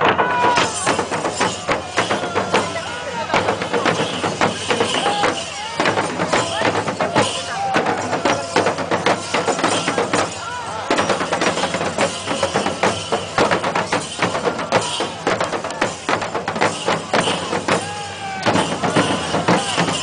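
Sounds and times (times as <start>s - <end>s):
rapid drum strokes: 0.0s - 20.0s
metallic jingling: 0.4s - 20.0s.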